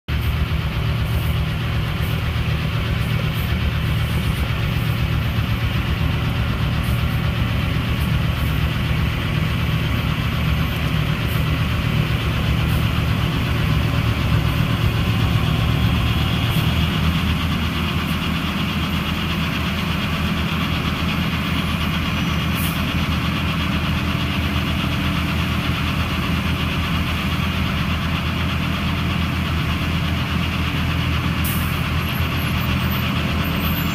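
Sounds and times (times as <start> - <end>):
diesel loader with snowblower running: 0.1 - 33.9
truck diesel engine running: 0.1 - 33.9.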